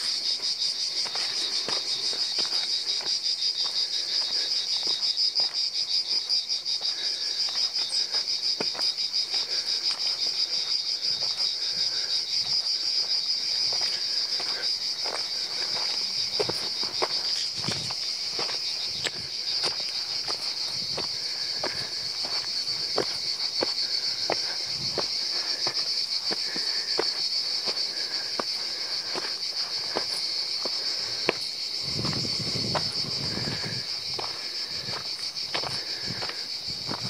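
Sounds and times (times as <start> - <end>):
cicadas chorus: 0.0 - 37.0
footsteps on stony dirt path: 0.0 - 37.0.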